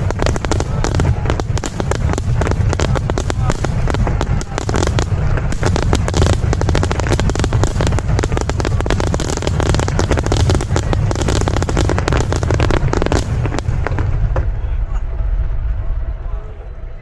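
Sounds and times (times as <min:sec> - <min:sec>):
fireworks bursts and crackles: 0:00.0 - 0:16.2
deep rumble of booms: 0:00.0 - 0:16.8.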